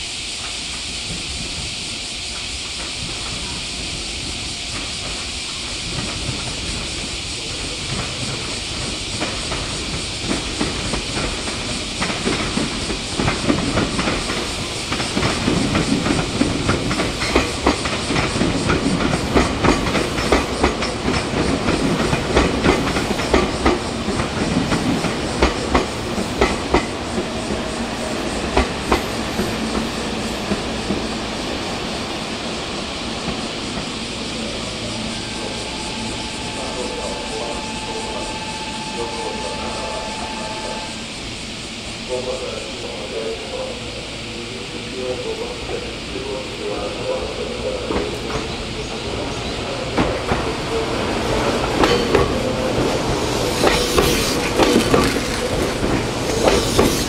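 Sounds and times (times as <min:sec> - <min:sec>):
train wheels clacking on rails: 0:00.0 - 0:41.1, 0:44.9 - 0:57.0.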